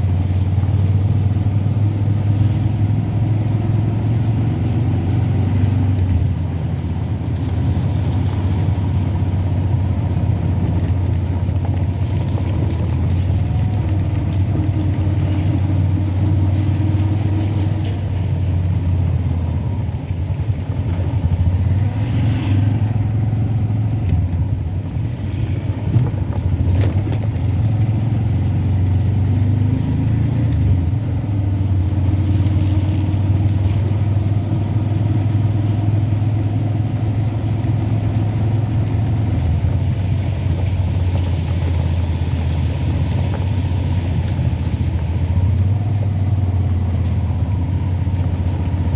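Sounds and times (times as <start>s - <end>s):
vehicle engine and road drone: 0.0s - 48.9s.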